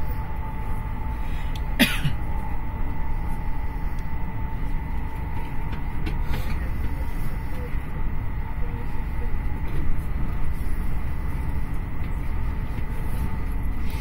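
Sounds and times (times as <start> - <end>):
faint steady whine: 0.0 - 14.0
train wheels rumbling on track: 0.0 - 14.0.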